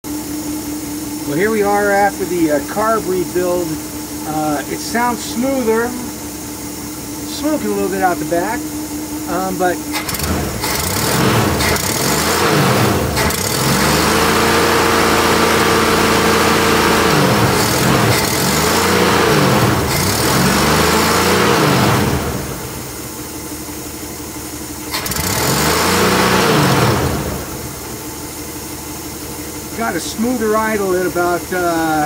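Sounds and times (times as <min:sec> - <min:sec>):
engine revving and idling: 0:00.1 - 0:32.0.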